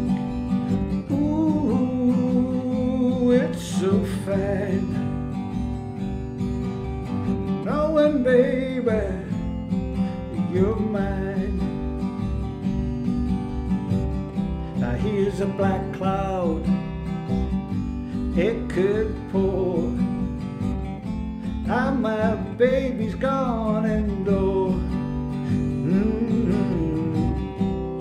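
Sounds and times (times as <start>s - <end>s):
strummed acoustic guitar: 0.0s - 28.0s
lead melody with sliding notes: 4.2s - 28.0s.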